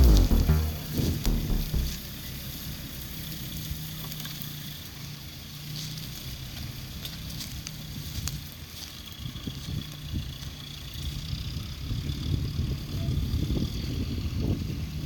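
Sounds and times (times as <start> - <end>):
truck engine running low speed: 0.0 - 15.0.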